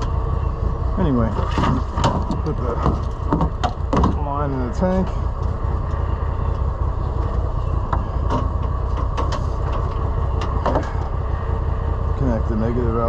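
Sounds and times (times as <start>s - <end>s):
utility vehicle engine idling: 0.0s - 13.0s.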